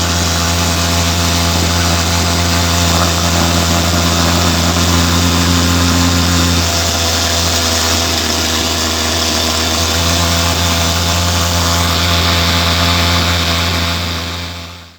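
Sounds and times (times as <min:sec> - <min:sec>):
engine hiss: 0:00.0 - 0:14.9
pulse-jet engine drone: 0:00.0 - 0:14.9.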